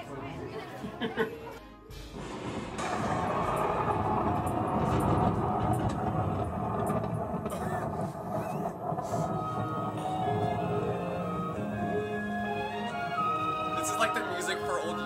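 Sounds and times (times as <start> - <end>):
steady rumbling noise: 2.0 - 15.0.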